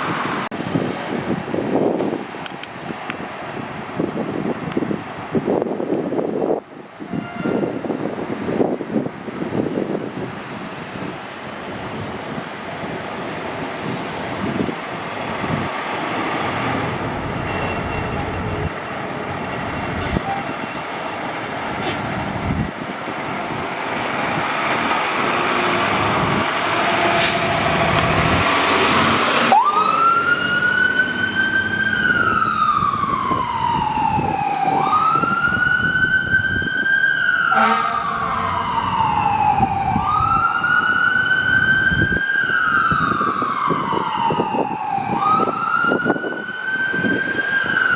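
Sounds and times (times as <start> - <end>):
fire truck engine: 0.0 - 47.9
fire truck siren wailing: 3.6 - 11.1, 12.8 - 47.9.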